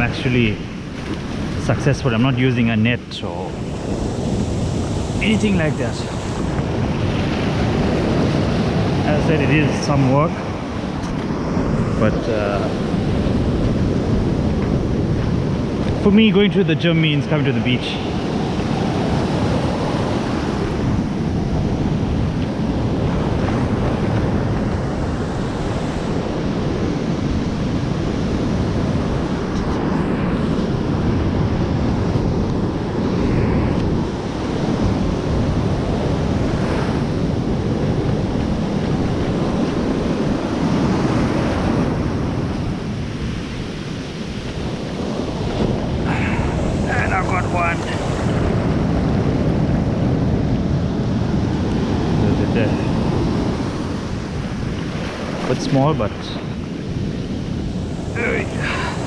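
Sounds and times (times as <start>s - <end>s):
ocean surf washing: 0.0s - 59.0s
wind buffeting microphone: 0.0s - 59.0s.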